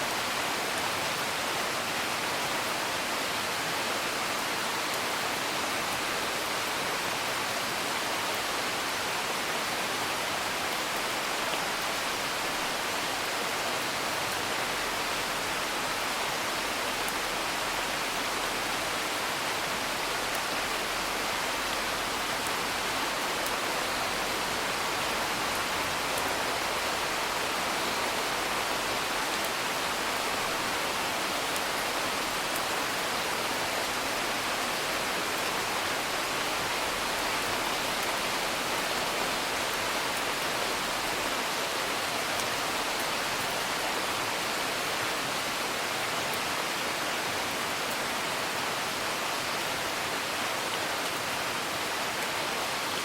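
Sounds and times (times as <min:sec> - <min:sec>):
rain hiss: 0:00.0 - 0:53.0.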